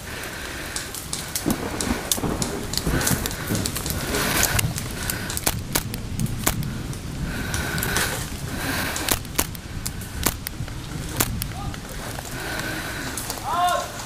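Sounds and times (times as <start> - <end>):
steady low rumble: 0.0 - 13.4.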